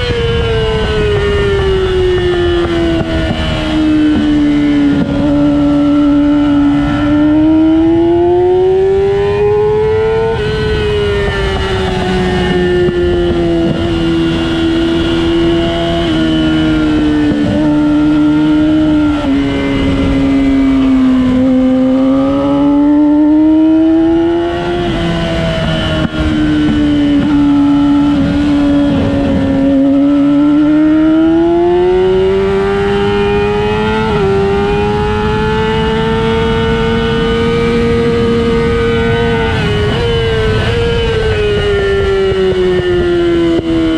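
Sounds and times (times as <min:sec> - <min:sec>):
race car engine accelerating: 0:00.0 - 0:43.9.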